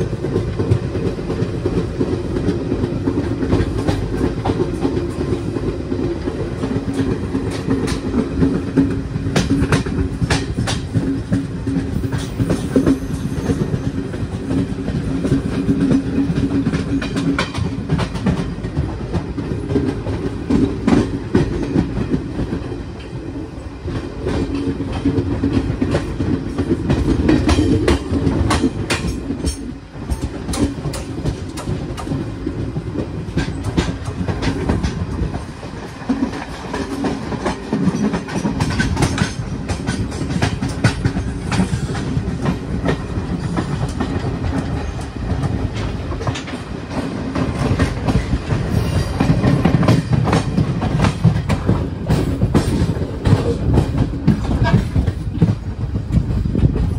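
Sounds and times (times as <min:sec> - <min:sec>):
train rumbling: 0:00.0 - 0:56.9
wheels clacking over rail joints: 0:00.0 - 0:56.9.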